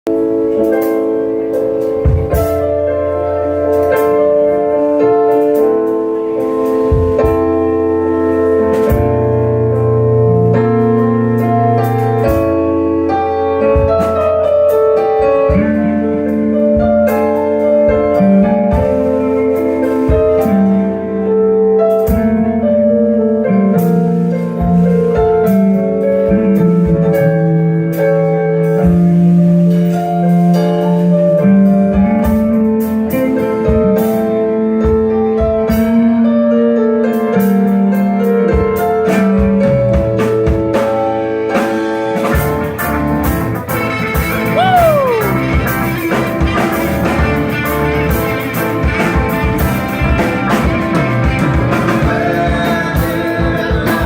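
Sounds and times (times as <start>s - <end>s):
instrumental keyboard music: 0.0s - 54.0s.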